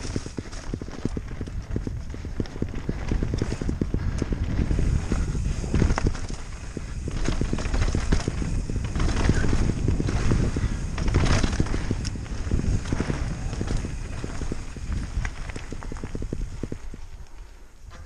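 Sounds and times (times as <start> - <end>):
bike tyres and frame rattling: 0.0 - 18.0
wind on microphone: 0.0 - 18.0.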